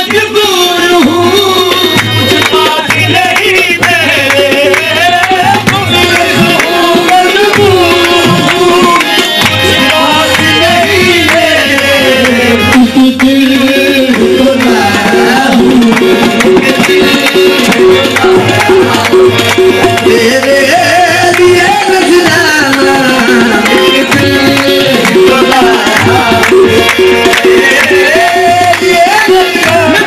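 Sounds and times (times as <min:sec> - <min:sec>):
tabla beat: 0:00.0 - 0:30.0.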